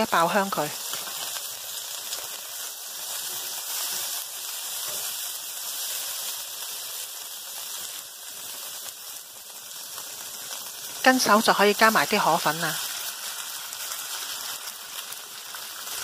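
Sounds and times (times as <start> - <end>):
garlic sizzling in hot oil: 0.0 - 16.0.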